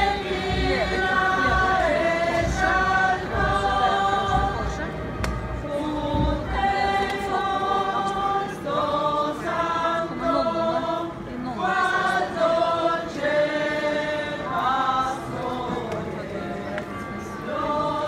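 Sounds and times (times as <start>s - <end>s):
group singing a hymn: 0.0s - 18.0s.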